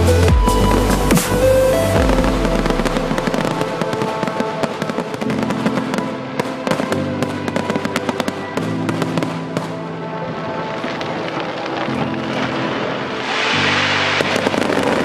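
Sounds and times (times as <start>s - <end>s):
fireworks bursting and crackling: 0.0s - 15.0s
music: 0.0s - 15.0s.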